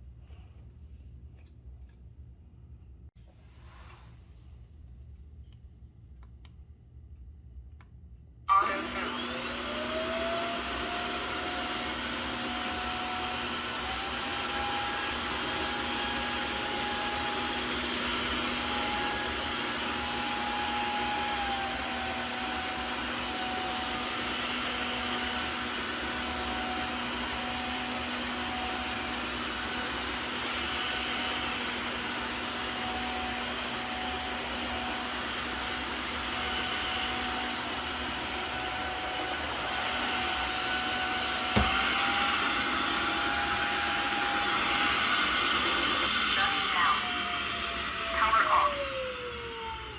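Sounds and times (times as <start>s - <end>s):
vacuum cleaner motor whine: 8.5s - 49.9s.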